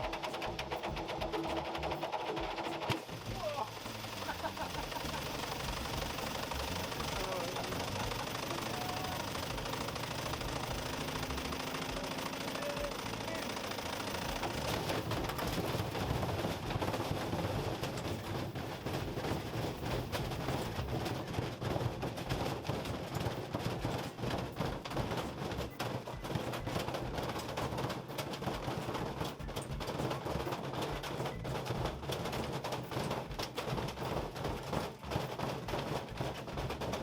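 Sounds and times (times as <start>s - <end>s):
knocking and rattling in drum: 0.0s - 37.0s
washing machine humming: 0.0s - 37.0s.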